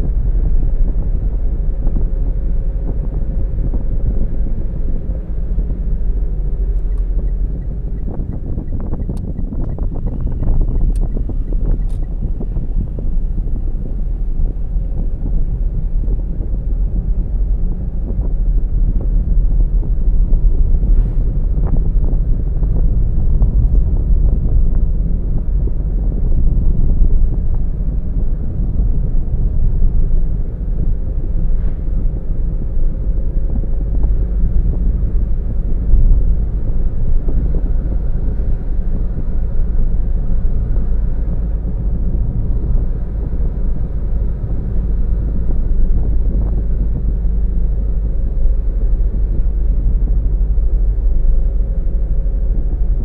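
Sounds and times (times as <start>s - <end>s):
car driving on road rumble: 0.0s - 53.0s.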